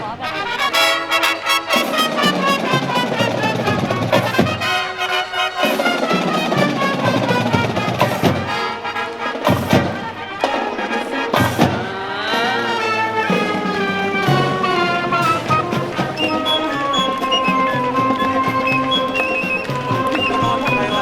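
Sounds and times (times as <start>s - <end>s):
brass melody: 0.0s - 21.0s
drums keeping steady beat: 0.0s - 21.0s.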